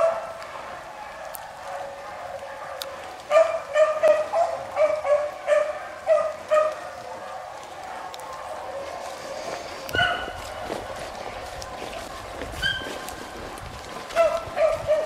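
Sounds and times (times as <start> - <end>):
beagle baying: 0.0 - 15.0.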